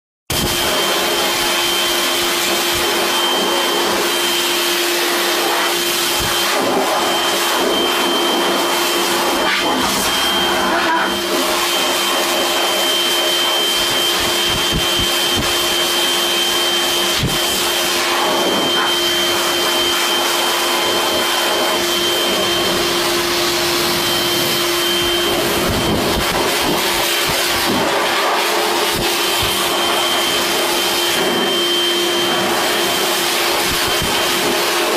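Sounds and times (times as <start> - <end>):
hair dryer running: 0.3 - 34.9.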